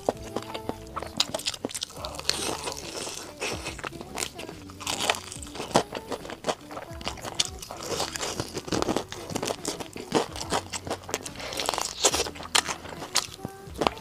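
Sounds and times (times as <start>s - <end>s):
crunching fried chicken: 0.0s - 14.0s.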